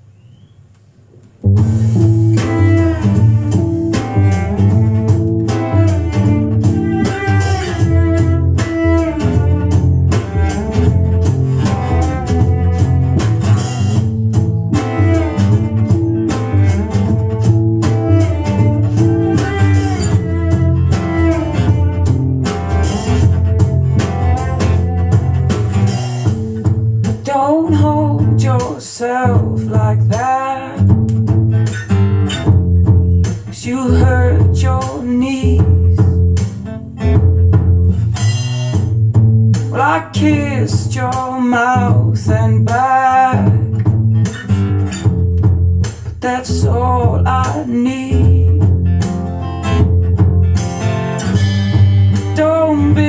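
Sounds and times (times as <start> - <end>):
deep string bass line: 1.4 - 30.2, 30.8 - 53.0
plucked acoustic guitar: 1.4 - 53.0.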